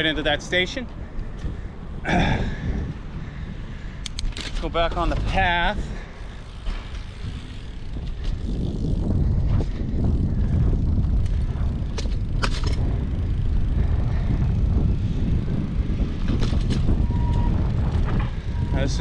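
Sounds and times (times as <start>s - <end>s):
bicycle clicks and rattles: 0.0s - 2.4s, 3.8s - 19.0s
wind rumbling on microphone: 0.0s - 19.0s.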